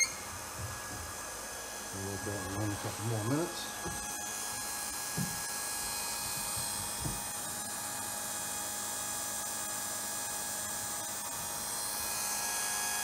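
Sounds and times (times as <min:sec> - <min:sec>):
electric pump humming and whining: 0:00.0 - 0:13.0.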